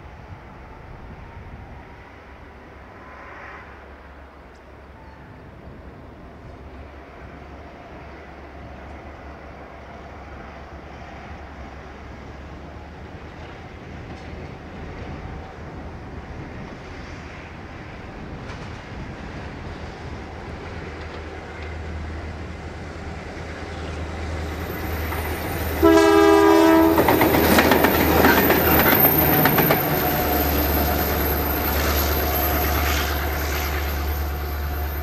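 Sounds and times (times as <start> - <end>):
diesel locomotive engine drone: 0.0 - 35.0.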